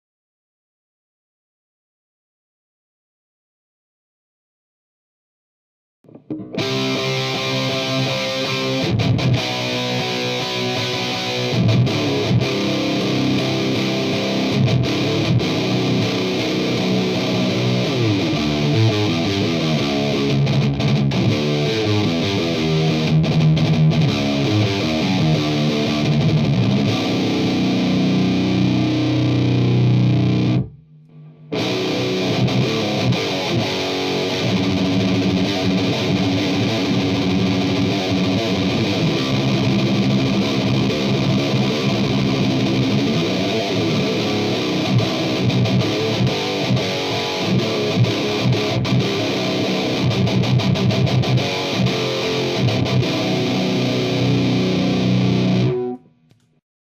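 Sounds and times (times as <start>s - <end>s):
distorted electric guitar riffs: 6.1s - 56.3s.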